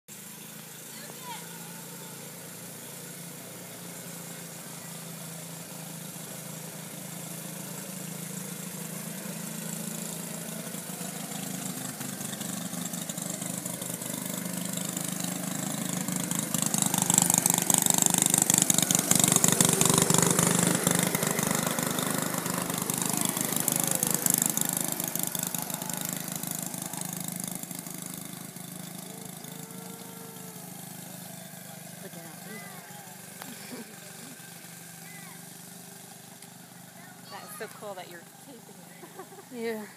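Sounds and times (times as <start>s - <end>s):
miniature locomotive engine running: 0.1s - 39.9s
rapid wheel clatter: 0.2s - 39.6s.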